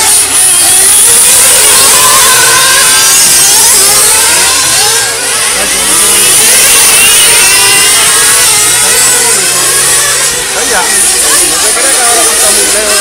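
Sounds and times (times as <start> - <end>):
small model car engines revving: 0.0 - 13.0.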